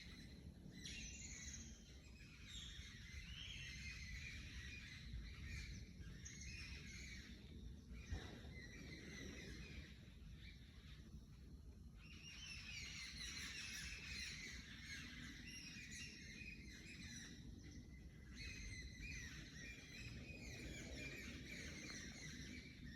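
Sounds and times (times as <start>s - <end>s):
forest birds singing: 0.0s - 22.9s.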